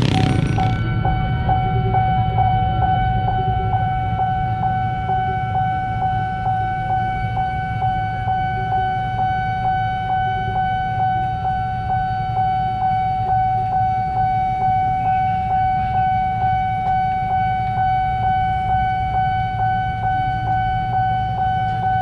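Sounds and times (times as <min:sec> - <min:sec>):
level crossing warning alarm: 0:00.0 - 0:22.0
low steady rumble: 0:00.0 - 0:22.0.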